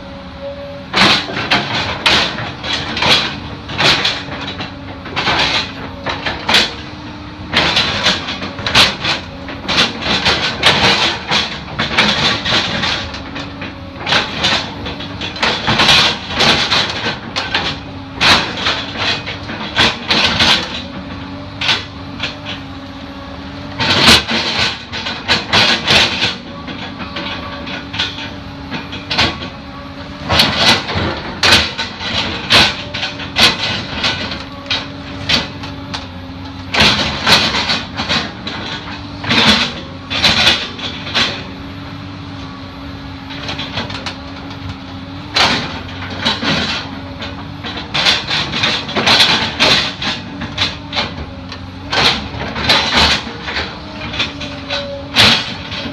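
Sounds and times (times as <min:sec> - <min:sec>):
excavator engine humming: 0:00.0 - 0:55.9.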